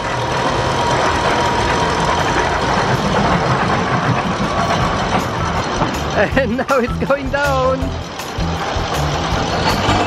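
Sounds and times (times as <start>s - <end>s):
ride machinery rumbling: 0.0s - 10.0s.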